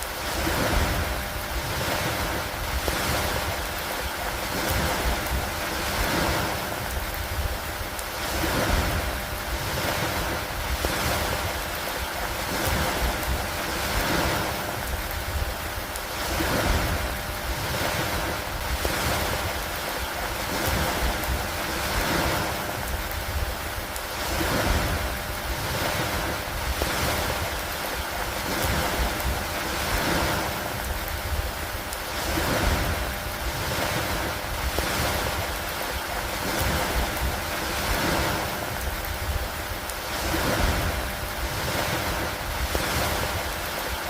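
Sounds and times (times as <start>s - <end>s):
rain falling: 0.0s - 44.0s
waves washing in: 0.0s - 44.0s
wind rumble on microphone: 0.0s - 44.0s.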